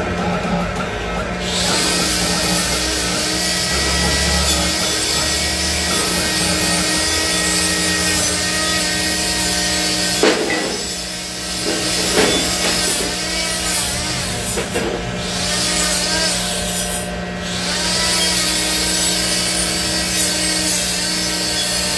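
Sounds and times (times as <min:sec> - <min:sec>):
power tool grinding metal: 0:00.0 - 0:21.9
steady hum: 0:00.0 - 0:21.9.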